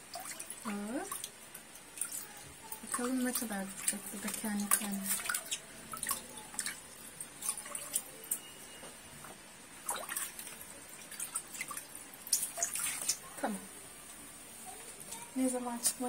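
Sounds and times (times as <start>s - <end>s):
water dripping in plastic bucket: 0.0s - 13.6s.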